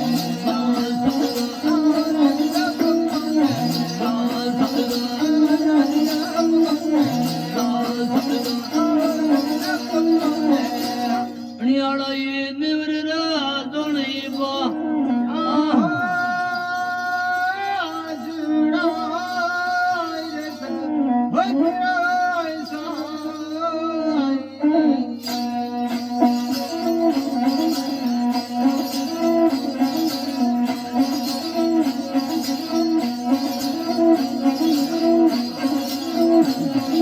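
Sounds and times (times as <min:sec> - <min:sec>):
devotional folk song: 0:00.0 - 0:37.0.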